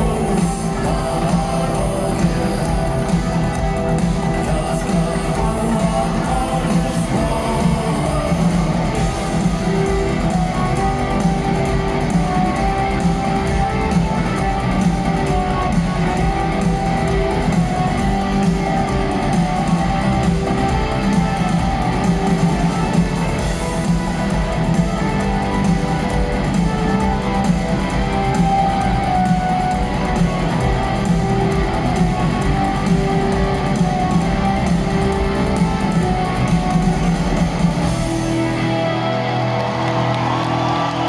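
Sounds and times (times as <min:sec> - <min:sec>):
bass guitar: 0:00.0 - 0:41.0
rock band playing live: 0:00.0 - 0:41.0
strummed electric guitars: 0:00.0 - 0:41.0.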